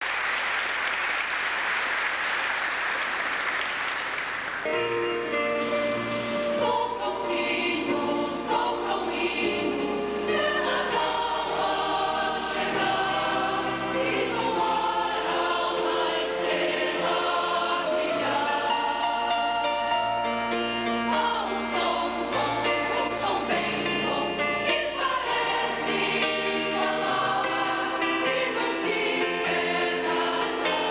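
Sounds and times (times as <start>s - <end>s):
choir singing in harmony: 4.6s - 30.9s.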